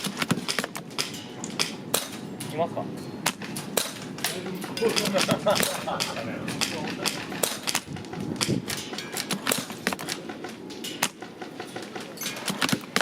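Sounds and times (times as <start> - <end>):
airsoft guns firing: 0.0 - 2.2, 3.3 - 13.0
steady rumble: 0.0 - 13.0.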